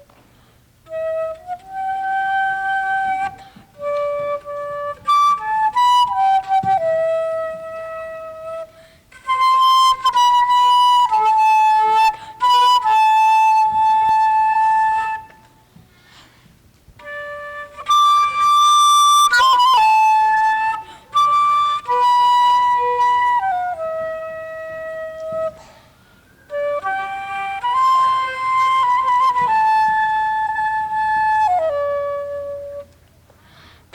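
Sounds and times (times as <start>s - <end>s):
flute playing slow melody: 0.8s - 15.8s, 17.0s - 33.1s.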